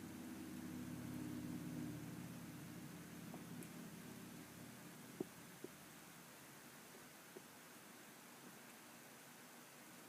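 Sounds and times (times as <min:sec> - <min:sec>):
background hiss: 0:00.0 - 0:10.0
faint low hum: 0:00.0 - 0:10.0.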